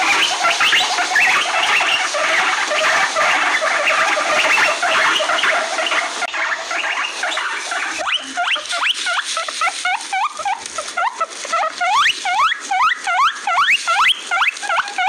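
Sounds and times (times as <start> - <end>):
guinea pigs wheeking: 0.0 - 15.0.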